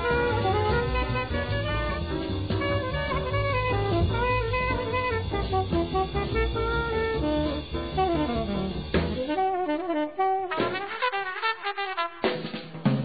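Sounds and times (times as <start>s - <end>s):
tenor saxophone melody: 0.0s - 12.3s
bass: 0.0s - 13.0s
drums: 0.0s - 13.0s.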